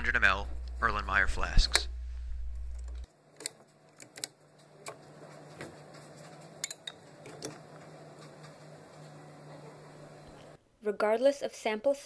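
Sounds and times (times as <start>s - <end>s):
faint steady hum: 0.0s - 11.2s.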